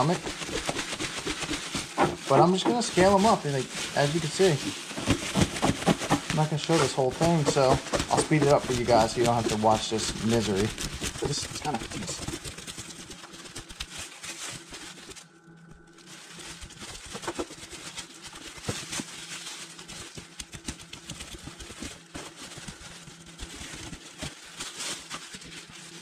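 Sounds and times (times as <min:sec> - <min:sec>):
faint steady hum: 0:00.0 - 0:26.0
plastic bag crinkling: 0:00.0 - 0:26.0.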